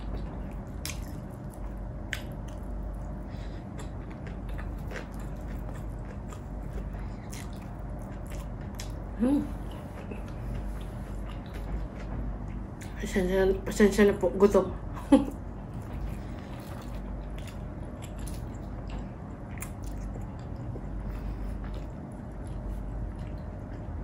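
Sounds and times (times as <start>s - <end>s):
chewing with wet mouth clicks: 0.0s - 11.7s, 15.7s - 24.0s.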